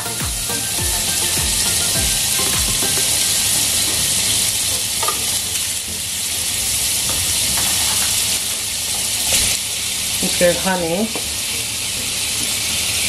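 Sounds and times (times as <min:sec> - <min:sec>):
butter sizzling in a frying pan: 0:00.0 - 0:13.0.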